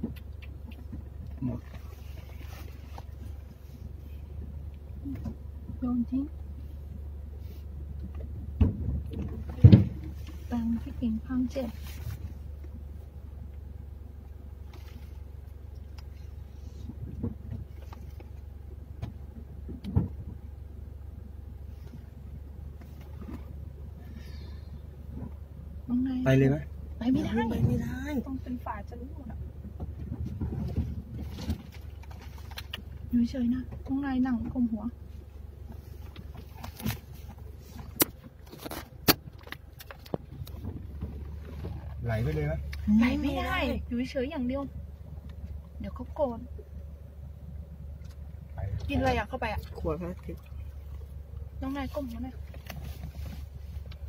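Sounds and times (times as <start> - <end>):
car idling hum: 0.0 - 54.0.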